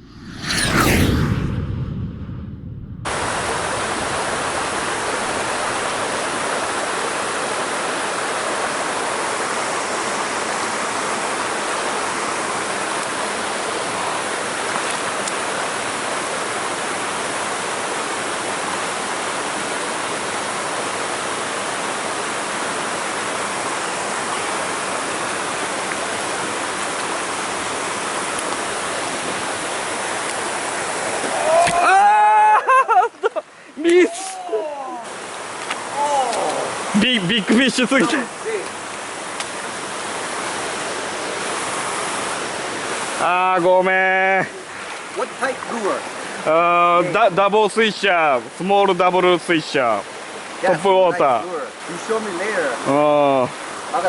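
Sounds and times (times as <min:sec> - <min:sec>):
mountain stream water rushing: 0:03.2 - 0:32.2, 0:33.5 - 0:54.0.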